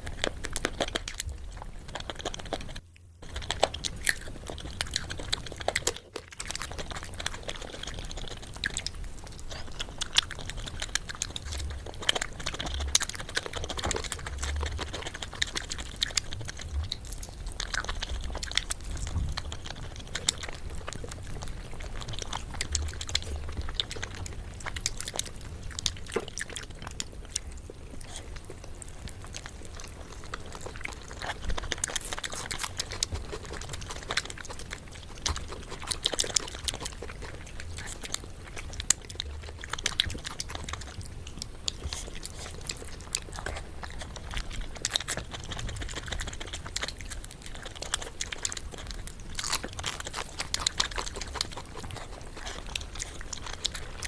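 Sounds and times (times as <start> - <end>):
chewing and biting food: 0.0 - 54.0
small mouth clicks: 0.0 - 54.0.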